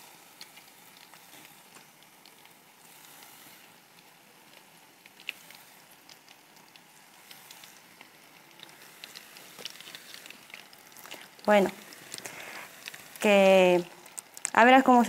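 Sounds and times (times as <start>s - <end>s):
food sizzling in oil: 0.0s - 15.0s
oil crackling and popping: 0.0s - 15.0s.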